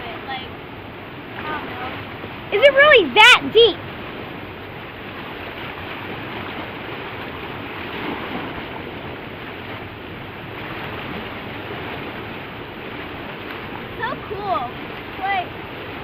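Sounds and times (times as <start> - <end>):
water rushing from outflow: 0.0 - 16.0.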